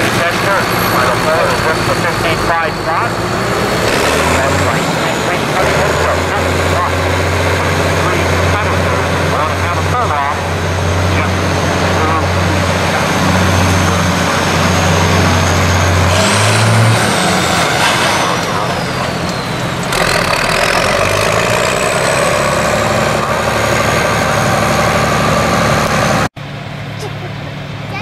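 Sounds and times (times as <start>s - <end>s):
tractor engine running: 0.0s - 28.0s
high whine gliding in pitch: 0.4s - 26.3s.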